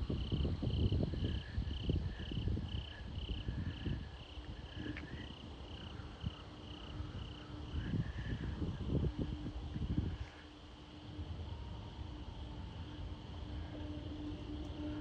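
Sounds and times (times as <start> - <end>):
crickets chirping: 0.0 - 15.0
wind rumbling on microphone: 0.0 - 15.0.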